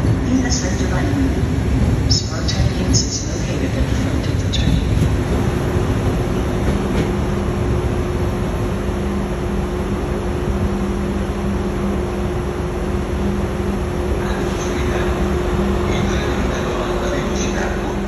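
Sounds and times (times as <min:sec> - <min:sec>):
electric train hum and rumble: 0:00.0 - 0:18.0.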